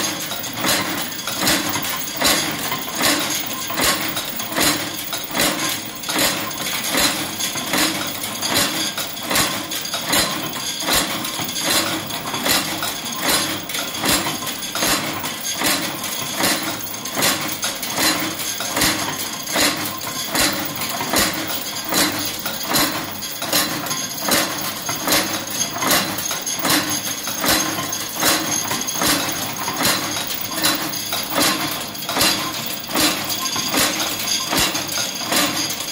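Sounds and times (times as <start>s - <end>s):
machine ram clanking: 0.2s - 35.9s.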